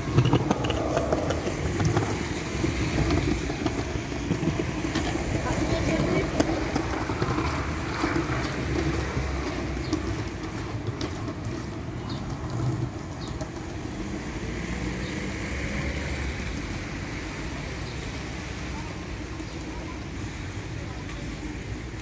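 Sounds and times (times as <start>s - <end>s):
traffic hum: 0.0s - 22.0s.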